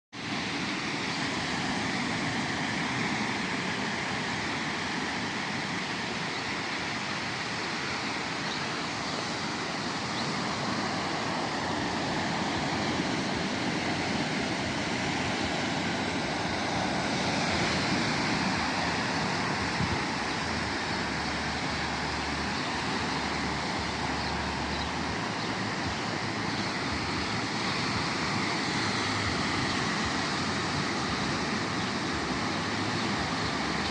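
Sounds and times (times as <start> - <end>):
sea waves on shore: 0.1 - 33.9.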